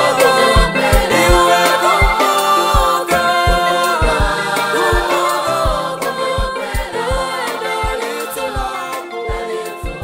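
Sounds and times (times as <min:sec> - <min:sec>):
deep bass beat: 0:00.0 - 0:08.7
choir singing in harmony: 0:00.0 - 0:10.0.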